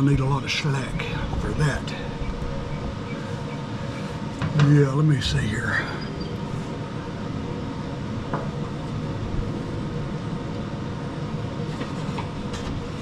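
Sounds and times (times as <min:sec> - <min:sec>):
mechanical hum and rumble: 0:00.0 - 0:13.0.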